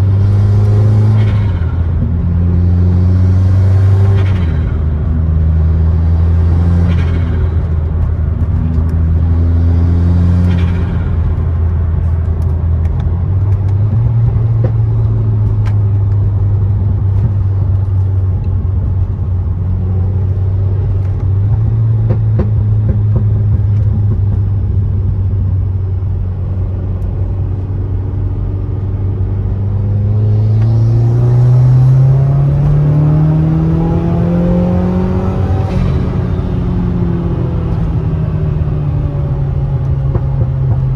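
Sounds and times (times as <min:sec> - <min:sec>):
turbocharged car engine running: 0:00.0 - 0:40.9.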